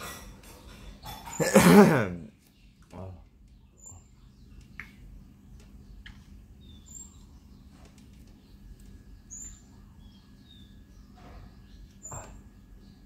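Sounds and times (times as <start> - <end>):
low steady hum: 0.1 - 13.0.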